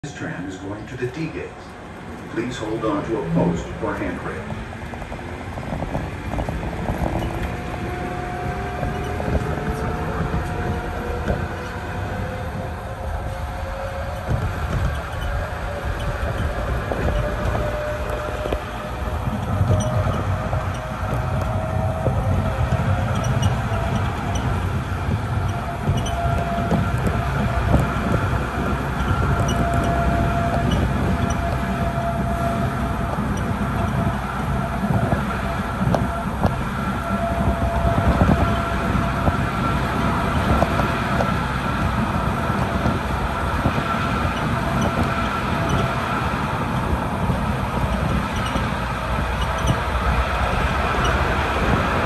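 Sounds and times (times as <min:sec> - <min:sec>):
faint constant whine: 0:00.0 - 0:52.0
tram running rumble: 0:00.0 - 0:52.0.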